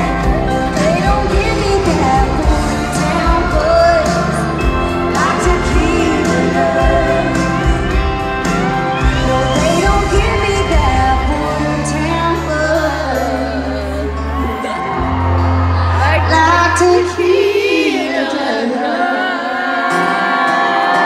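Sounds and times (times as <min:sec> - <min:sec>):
live country band: 0:00.0 - 0:21.0
person singing: 0:00.0 - 0:21.0.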